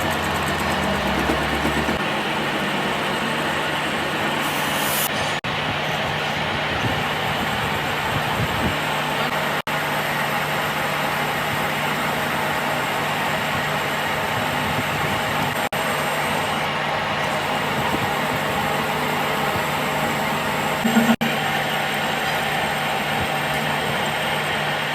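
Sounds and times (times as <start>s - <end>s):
metalworking machine running: 0.0s - 24.9s.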